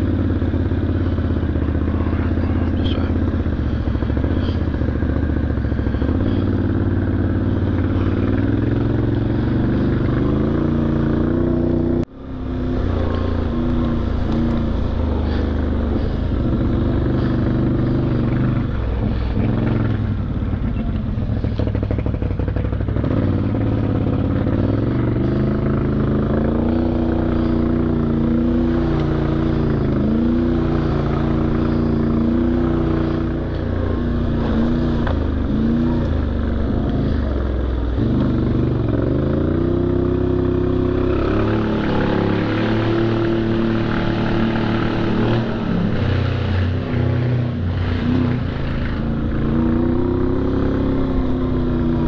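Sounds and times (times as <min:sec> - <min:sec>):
atv engine revving: 0:00.0 - 0:52.0
tyre and trail noise: 0:00.0 - 0:52.0.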